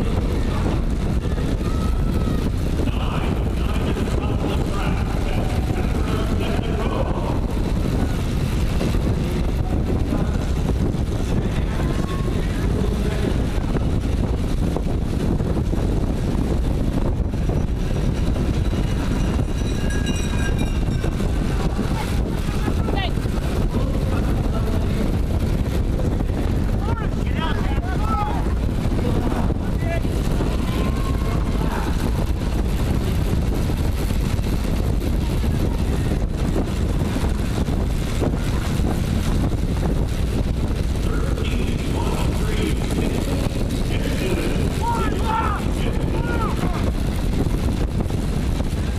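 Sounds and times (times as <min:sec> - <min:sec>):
wind rush over microphone: 0:00.0 - 0:48.9.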